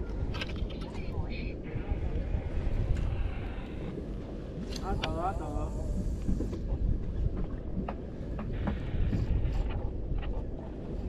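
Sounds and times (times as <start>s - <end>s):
boat engine rumble: 0.0s - 11.0s
wind buffeting microphone: 0.0s - 11.0s.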